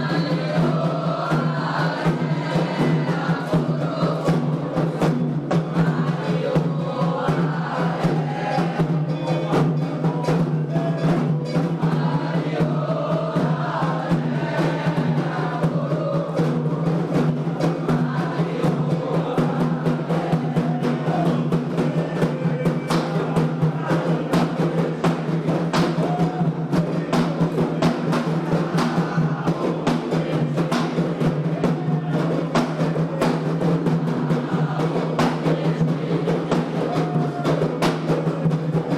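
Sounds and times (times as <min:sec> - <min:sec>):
group of voices chanting: 0:00.0 - 0:38.9
hand drums driving rhythm: 0:00.0 - 0:38.9.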